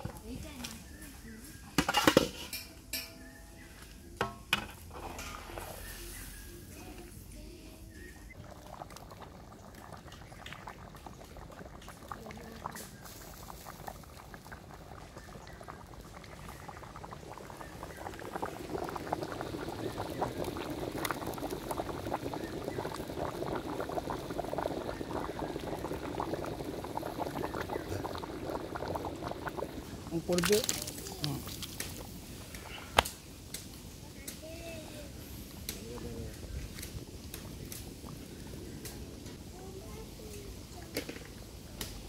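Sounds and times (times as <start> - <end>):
curry bubbling and popping: 0.0 - 1.0, 3.0 - 7.1, 7.9 - 34.5, 35.1 - 42.0.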